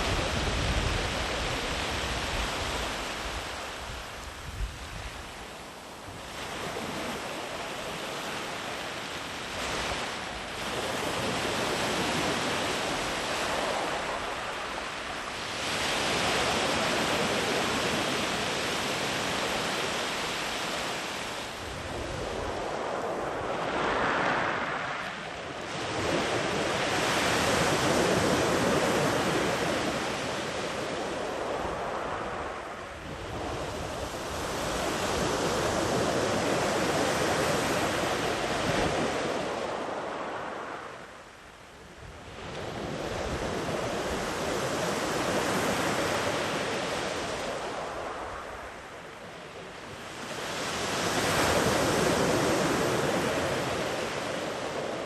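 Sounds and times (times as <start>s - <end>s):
sea waves breaking on beach: 0.0s - 41.3s, 42.2s - 55.0s
wind on microphone: 0.0s - 55.0s.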